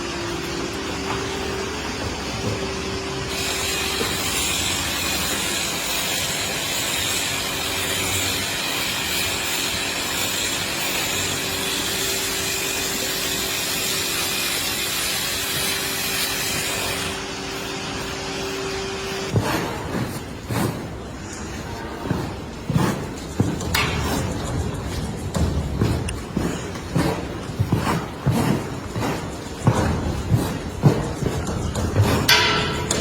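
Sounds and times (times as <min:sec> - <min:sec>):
machinery humming: 0:00.0 - 0:09.0, 0:10.0 - 0:33.0.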